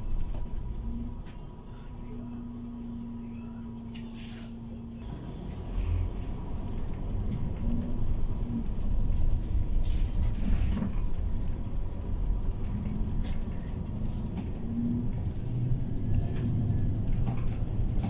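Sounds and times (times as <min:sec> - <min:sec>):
interior clicks and rattles: 0:00.0 - 0:02.3, 0:05.0 - 0:18.0
bus engine and road rumble: 0:00.0 - 0:18.0.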